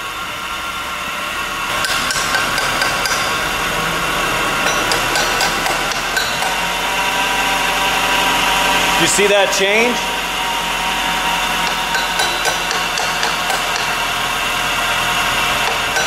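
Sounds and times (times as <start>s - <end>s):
steady whine: 0.0s - 16.0s.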